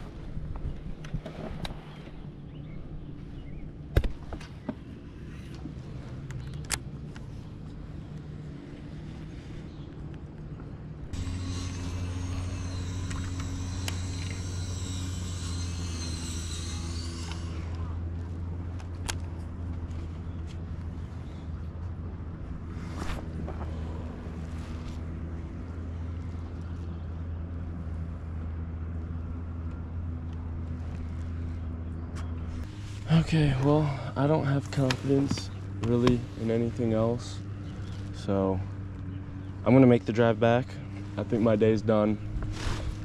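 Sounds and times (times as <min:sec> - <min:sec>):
boat motor humming: 0:00.0 - 0:43.0.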